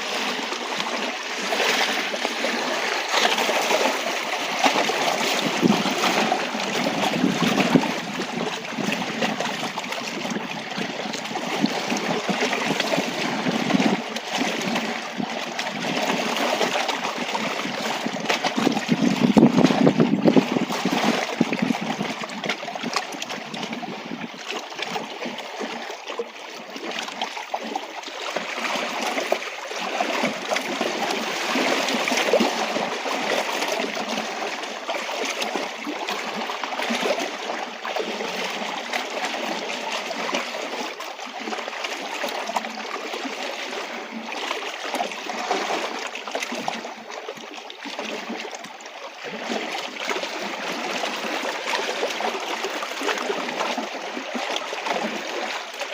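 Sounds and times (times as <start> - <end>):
waves lapping against rocks: 0.0 - 55.9.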